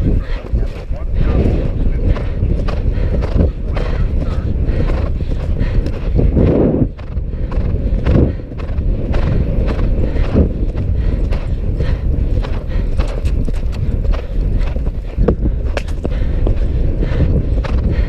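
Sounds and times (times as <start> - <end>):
galloping hoofbeats on turf: 0.0 - 18.0
wind buffeting microphone: 0.0 - 18.0.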